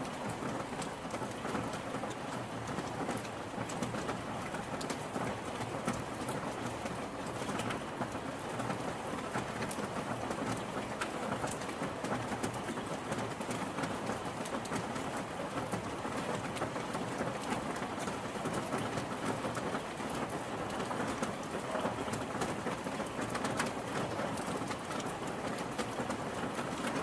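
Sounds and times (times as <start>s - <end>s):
rain falling on surfaces: 0.0s - 27.0s.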